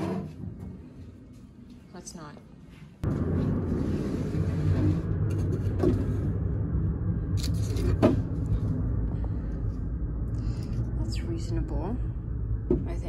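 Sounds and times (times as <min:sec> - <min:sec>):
steady low rumble: 0:00.3 - 0:13.0.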